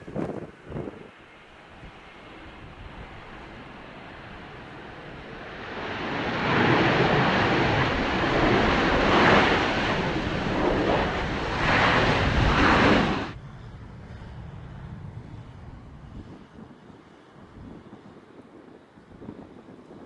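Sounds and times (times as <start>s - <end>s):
jet airliner engine roar: 0.0s - 20.0s.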